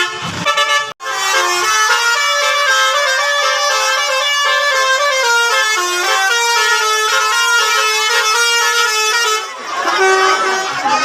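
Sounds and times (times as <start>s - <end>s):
bus horn playing a melody: 0.0s - 11.0s.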